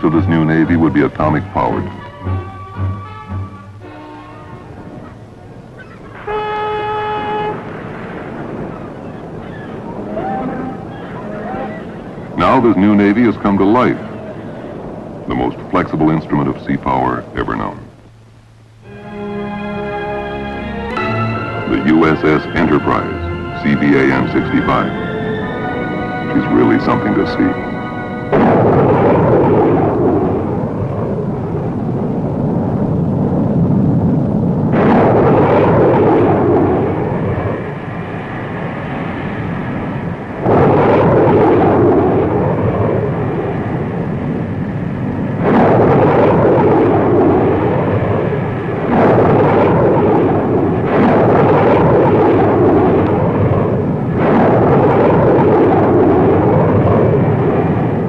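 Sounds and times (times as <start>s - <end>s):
jet engines roaring: 0.0s - 6.4s, 7.4s - 58.0s.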